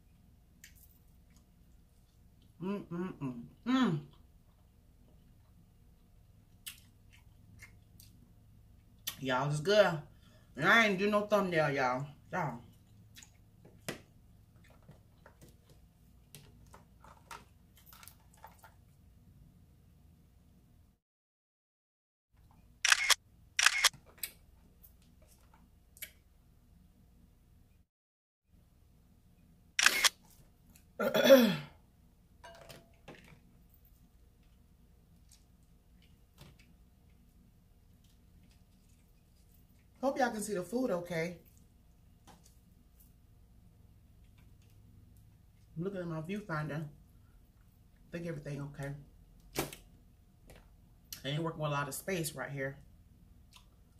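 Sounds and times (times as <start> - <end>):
low room hum: 0.0 - 21.0, 22.4 - 27.8, 28.5 - 53.9.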